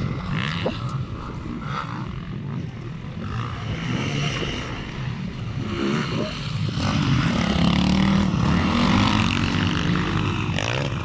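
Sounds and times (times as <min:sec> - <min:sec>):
motocross bike engines running: 0:00.0 - 0:11.0.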